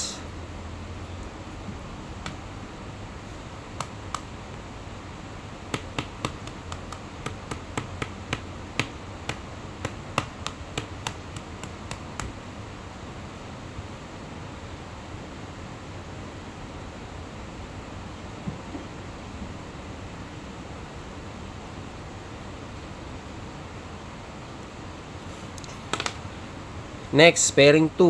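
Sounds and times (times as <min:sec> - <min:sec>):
low hum and hiss: 0:00.0 - 0:28.0.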